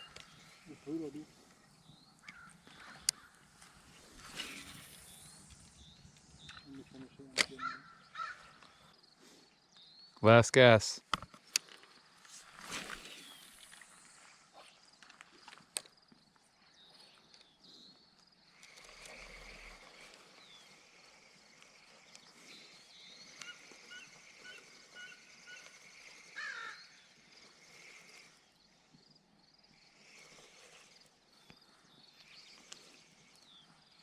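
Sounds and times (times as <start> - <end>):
faint outdoor ambience: 0.0 - 34.0.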